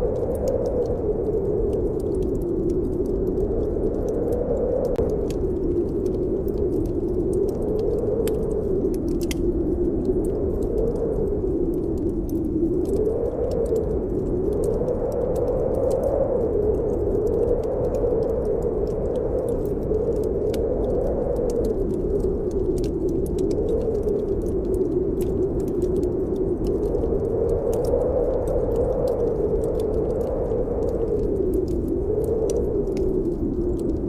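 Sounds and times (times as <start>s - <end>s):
wind howling: 0.0s - 34.0s
wood fire crackling and popping: 0.0s - 34.0s.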